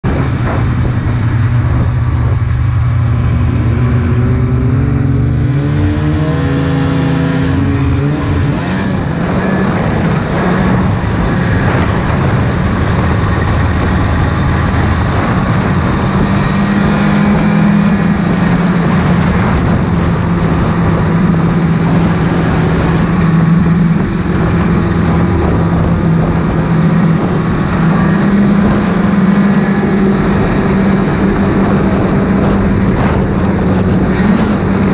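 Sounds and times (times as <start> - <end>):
snowmobile engine revving: 0.0 - 34.9.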